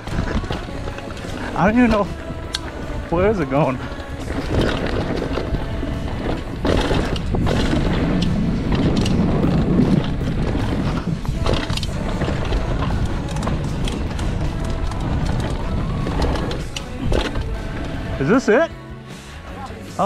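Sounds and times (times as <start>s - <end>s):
wind on microphone: 0.0s - 18.3s
bike knocking and rattling: 0.0s - 18.4s
tyres rushing on dirt and gravel: 0.0s - 18.6s.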